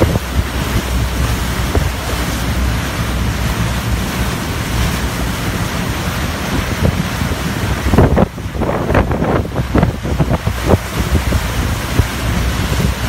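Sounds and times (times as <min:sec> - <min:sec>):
boat engine low rumble: 0:00.0 - 0:13.0
water along hull: 0:00.0 - 0:13.0
wind on microphone: 0:00.0 - 0:13.0.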